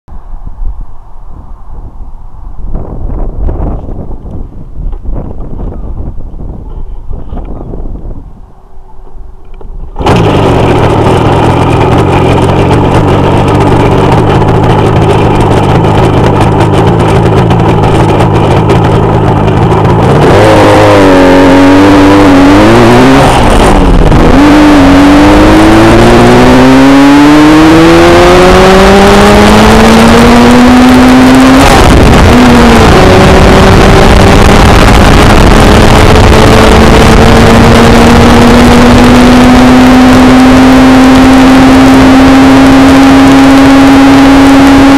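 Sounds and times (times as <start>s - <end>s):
wind noise: 0.1s - 44.9s
motorcycle engine accelerating: 0.4s - 44.9s.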